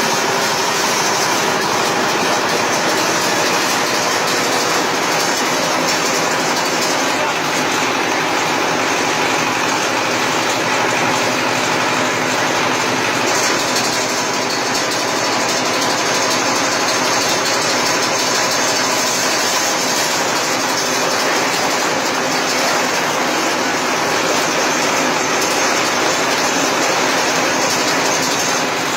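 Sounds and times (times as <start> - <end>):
chopping machine running: 0.0 - 28.9.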